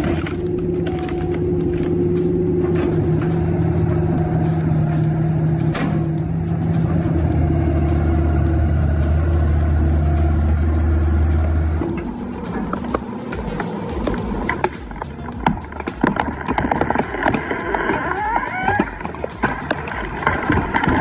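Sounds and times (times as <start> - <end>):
excavator engine under load: 0.0 - 21.0.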